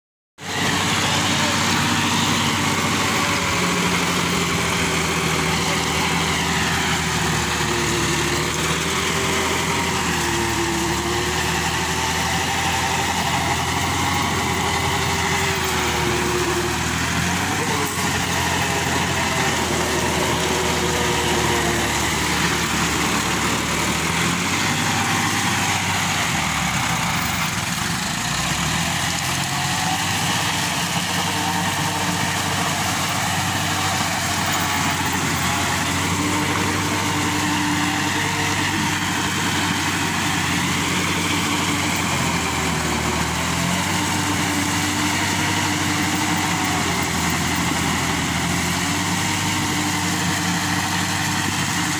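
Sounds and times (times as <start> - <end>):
rotary implement chopping and grinding: 0.4 - 51.9
tractor diesel engine under load: 0.4 - 51.9.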